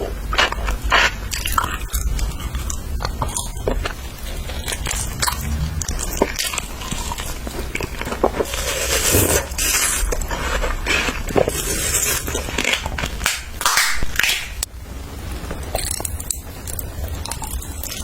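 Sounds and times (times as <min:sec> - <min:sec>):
food being chewed crunchily: 0:00.0 - 0:18.0.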